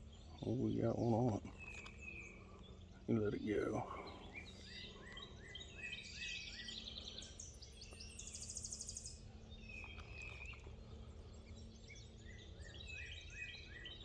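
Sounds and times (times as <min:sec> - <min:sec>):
low background hum: 0:00.0 - 0:14.0
songbirds singing: 0:00.0 - 0:14.0.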